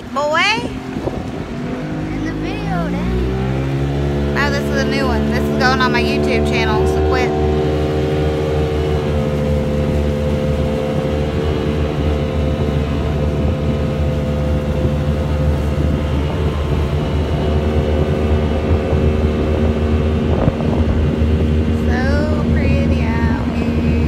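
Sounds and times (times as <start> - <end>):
engine humming steadily: 0.0 - 24.0
wind-like rushing noise: 0.0 - 24.0.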